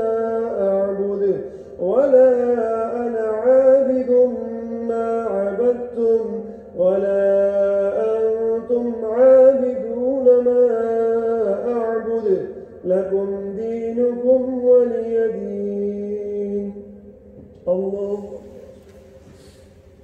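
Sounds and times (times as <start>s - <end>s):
man reciting melodically: 0.0s - 19.9s.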